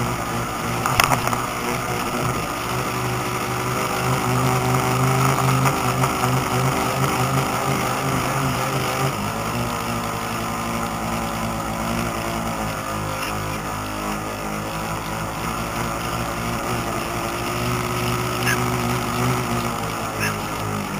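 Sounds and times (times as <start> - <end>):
model boat motor humming: 0.0 - 20.9.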